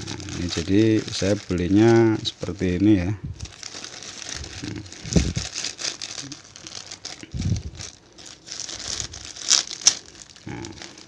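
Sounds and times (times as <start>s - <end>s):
plastic bags crinkling: 0.0s - 11.0s
sharp plastic crackle: 0.0s - 11.0s.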